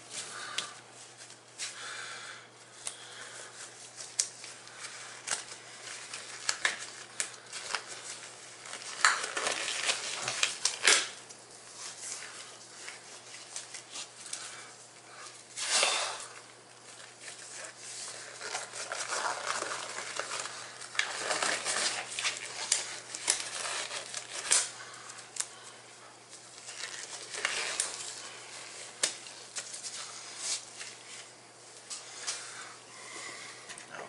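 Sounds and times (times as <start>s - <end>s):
rubber gloves rustling: 0.0s - 33.9s.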